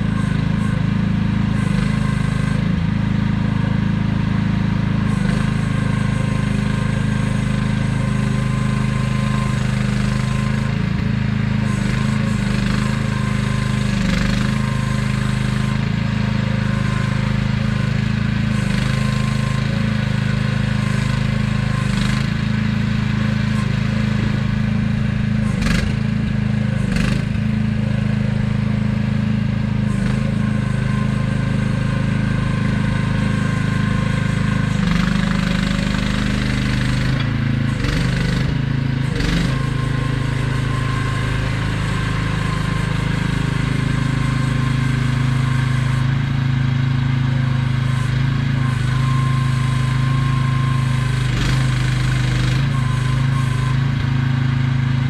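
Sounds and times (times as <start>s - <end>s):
mini excavator engine running: 0.0s - 55.0s.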